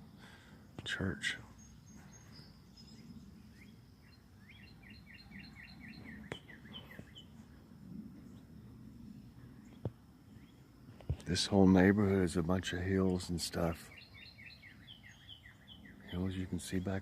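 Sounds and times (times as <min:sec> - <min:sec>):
faint low rumble: 0:00.0 - 0:13.8
songbird chirping: 0:00.0 - 0:17.0.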